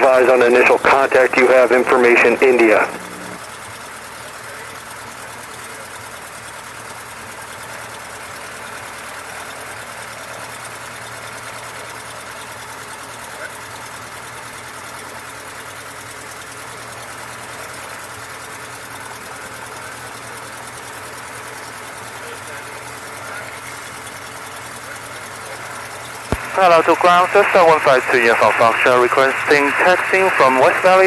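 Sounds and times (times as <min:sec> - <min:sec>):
aircraft engine idling: 0:00.0 - 0:31.0.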